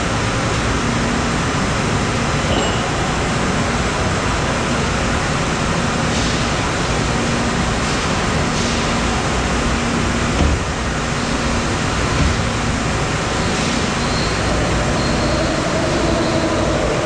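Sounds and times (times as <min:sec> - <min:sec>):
machine shop machinery running: 0:00.0 - 0:17.0.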